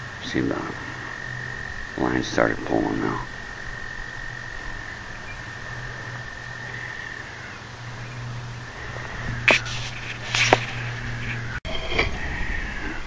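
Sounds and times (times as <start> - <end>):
frog trilling: 0.0 - 11.6
low steady hum: 0.0 - 12.4.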